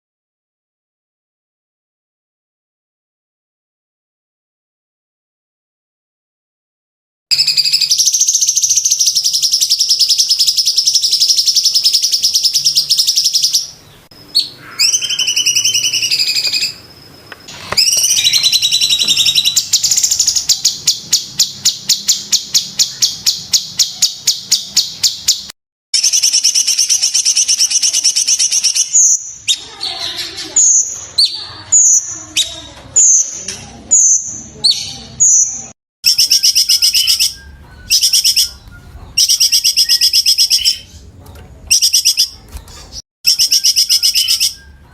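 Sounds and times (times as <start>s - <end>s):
bird trilling and calling: 7.3s - 44.9s.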